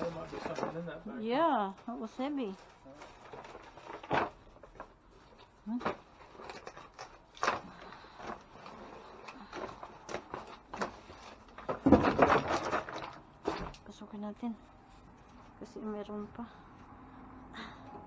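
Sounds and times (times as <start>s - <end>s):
trash bags and cardboard rustling: 0.0s - 16.5s.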